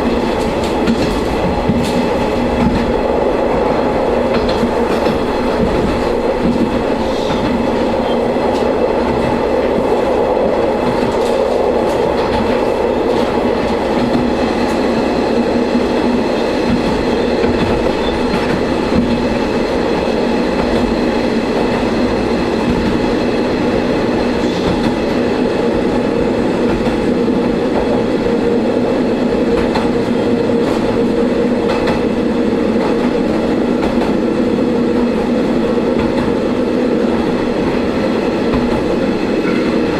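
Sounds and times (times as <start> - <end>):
railcar engine drone: 0.0 - 39.9
wheel and rail noise: 0.0 - 39.9.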